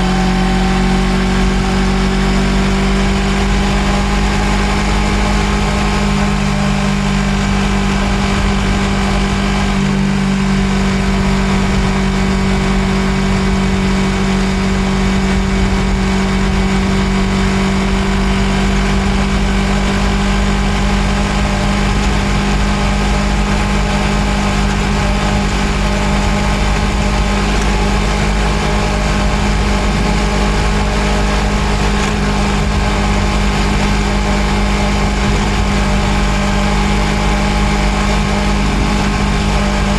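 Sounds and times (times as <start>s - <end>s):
motorcycle engine humming: 0.0s - 39.9s.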